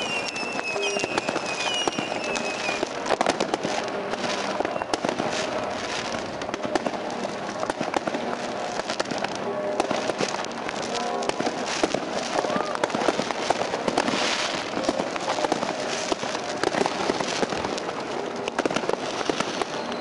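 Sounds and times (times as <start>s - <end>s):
fireworks crackling and banging: 0.0s - 20.0s
whistling fireworks: 0.0s - 20.0s.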